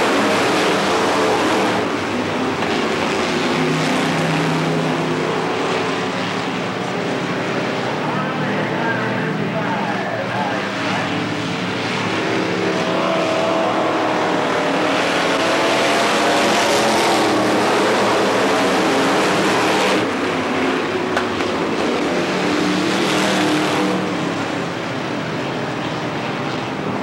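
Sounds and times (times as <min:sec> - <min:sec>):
race car engines at full throttle: 0:00.0 - 0:27.0.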